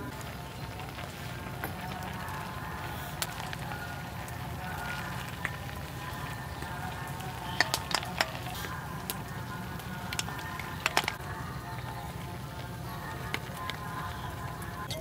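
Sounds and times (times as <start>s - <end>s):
soup bubbling in a pot: 0.0s - 15.0s.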